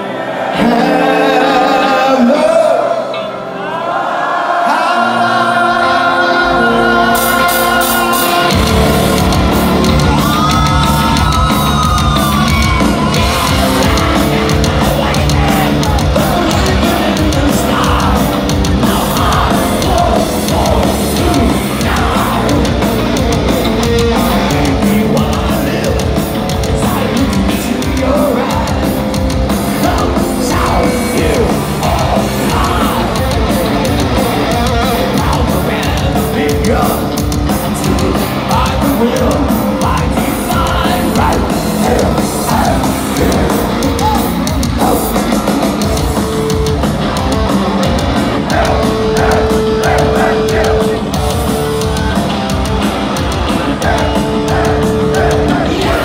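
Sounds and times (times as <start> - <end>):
male lead vocal: 0.0 - 46.8, 47.8 - 52.2, 53.5 - 56.0
heavy metal band playing: 0.0 - 56.0.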